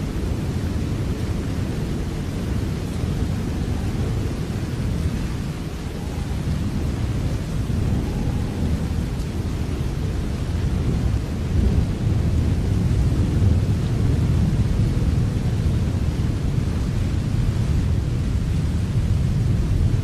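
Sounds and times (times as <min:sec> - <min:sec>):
low rumble of thunder: 0:00.0 - 0:20.0
steady rain: 0:00.0 - 0:20.0.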